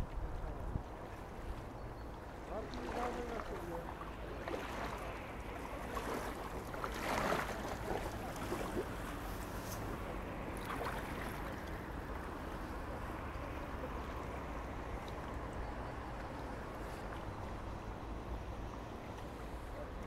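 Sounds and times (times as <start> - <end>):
paddle splashes: 0.0 - 20.0
water moving along hull: 0.0 - 20.0.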